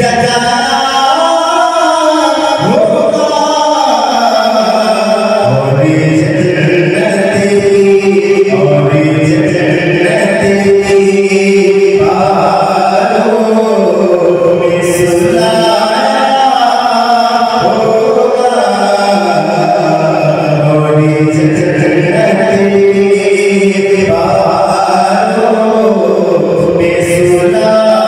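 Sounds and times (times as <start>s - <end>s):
man chanting into a microphone: 0.0s - 28.0s.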